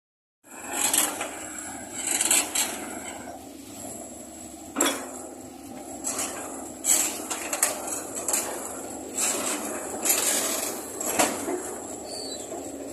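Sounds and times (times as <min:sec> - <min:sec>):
excavator engine drone: 0:00.4 - 0:12.9.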